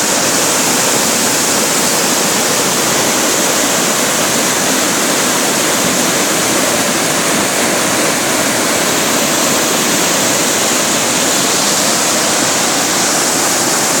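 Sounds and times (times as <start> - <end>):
waterfall crashing onto rocks: 0.0 - 14.0.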